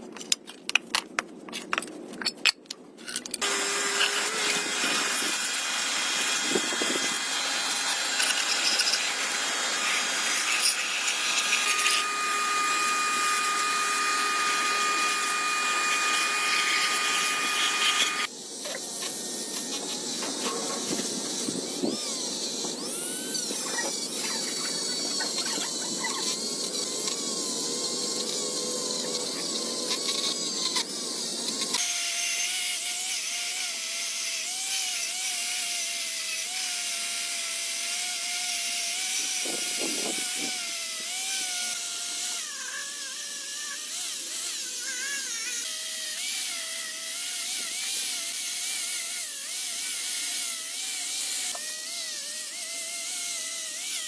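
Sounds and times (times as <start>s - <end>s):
electric power tool whining: 3.4s - 54.0s.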